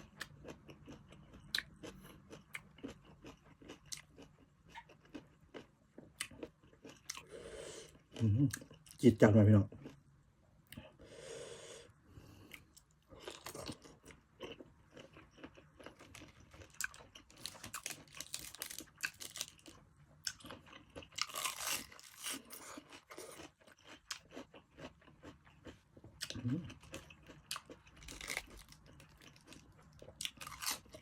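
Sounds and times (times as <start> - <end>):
chewing clicks and crunches: 0.0 - 7.2, 12.5 - 31.0.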